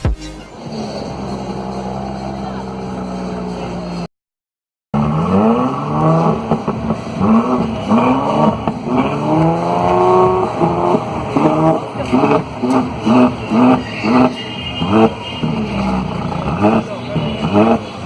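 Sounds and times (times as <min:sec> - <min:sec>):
car exhaust revving: 0:00.0 - 0:04.1, 0:05.0 - 0:18.0.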